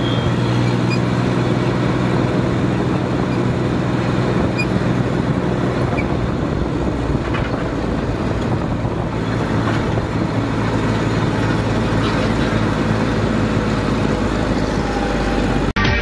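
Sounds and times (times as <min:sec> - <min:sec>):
wind and road noise: 0:00.0 - 0:15.8
tractor diesel engine running: 0:00.0 - 0:16.0.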